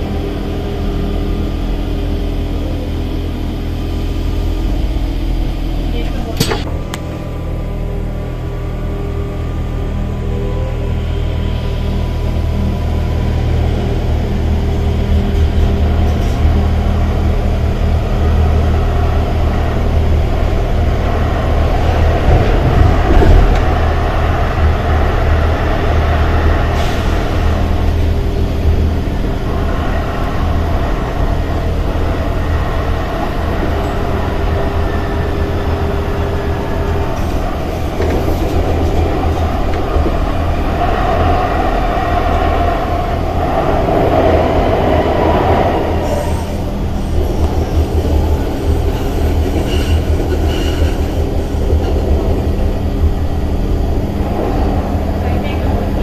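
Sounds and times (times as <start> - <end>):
tram wheels rumbling on track: 0.0 - 56.0.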